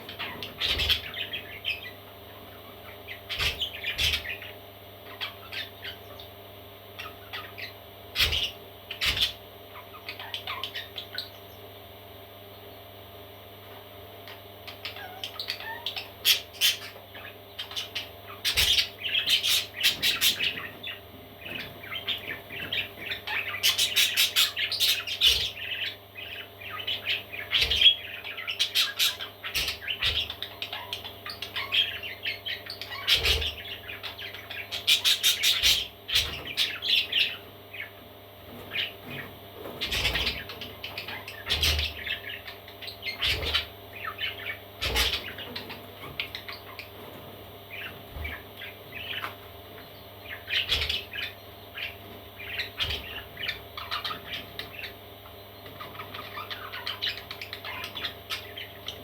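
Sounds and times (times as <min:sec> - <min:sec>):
parrot chicks chirping and squawking: 0:00.0 - 0:59.0
steady low hum: 0:00.0 - 0:59.0.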